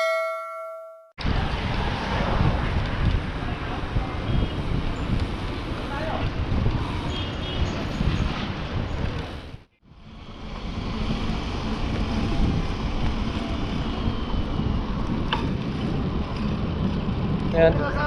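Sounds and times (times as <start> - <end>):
street traffic rumble: 1.2 - 18.0
wind buffeting microphone: 1.2 - 18.0.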